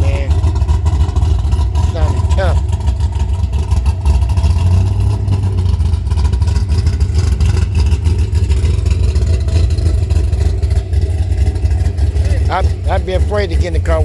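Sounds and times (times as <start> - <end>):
car engine deep rumble: 0.0 - 14.0.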